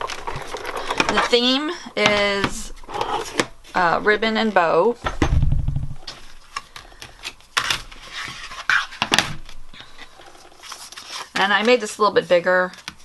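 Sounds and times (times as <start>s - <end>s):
cardstock rustling and scraping: 0.0s - 4.7s, 6.0s - 13.0s.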